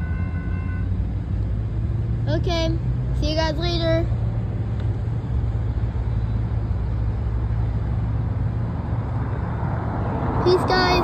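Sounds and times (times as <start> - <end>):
road noise: 0.0 - 11.0
traffic engine rumble: 0.0 - 11.0.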